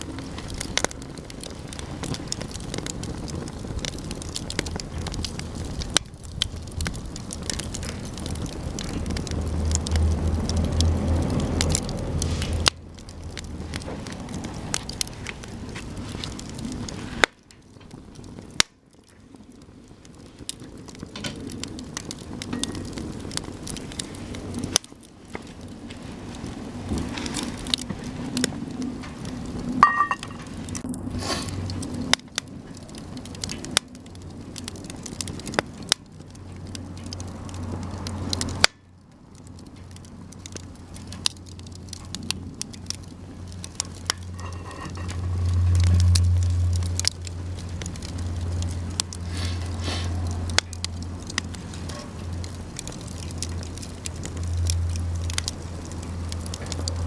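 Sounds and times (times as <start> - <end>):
campfire crackling: 0.0 - 57.0
fire sharp pops: 0.0 - 57.0.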